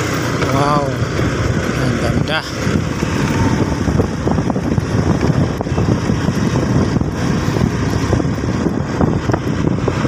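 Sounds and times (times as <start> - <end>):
vehicle low rumble: 0.0 - 10.0
wind buffeting microphone: 0.0 - 10.0.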